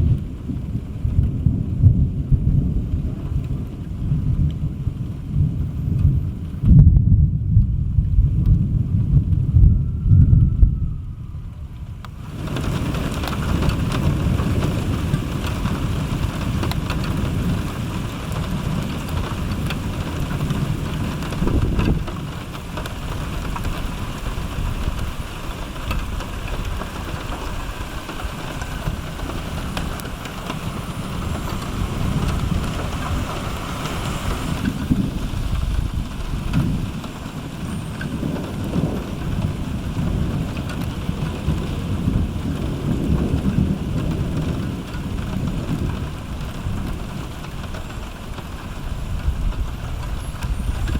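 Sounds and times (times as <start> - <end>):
heavy rain: 0.0 - 50.9
thunder rumbling: 0.0 - 50.9.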